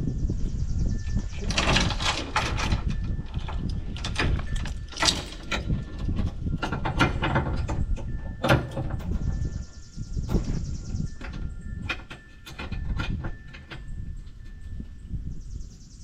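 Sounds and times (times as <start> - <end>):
metal clanks and rattles: 0.9 - 15.3.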